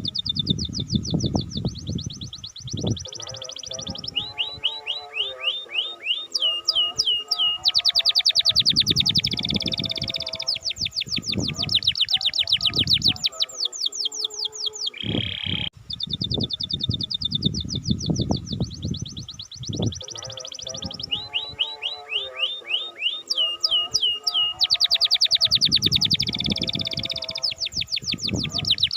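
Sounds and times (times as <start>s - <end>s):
canary singing trills: 0.0s - 28.9s.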